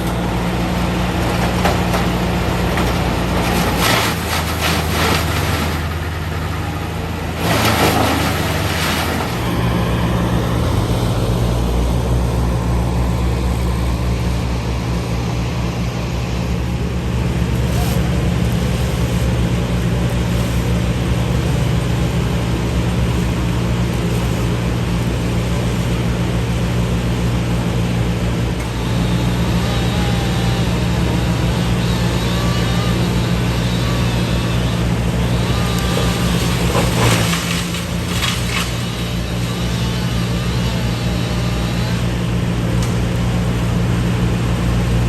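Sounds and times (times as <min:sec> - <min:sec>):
large engine running: 0:00.0 - 0:45.0.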